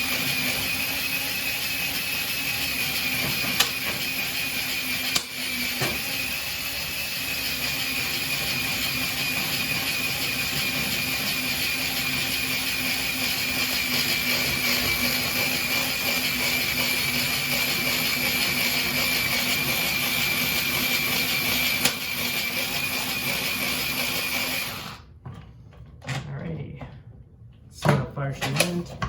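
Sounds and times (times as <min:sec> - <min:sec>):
cordless screwdriver whirring: 0:00.0 - 0:25.1.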